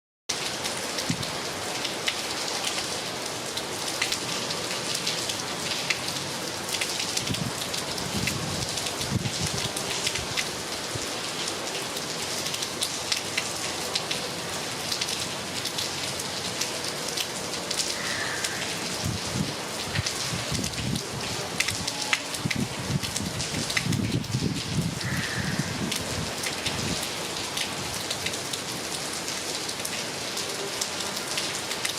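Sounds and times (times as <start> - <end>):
heavy rain: 0.3 - 31.9
raindrops ticking on surfaces: 0.3 - 31.9.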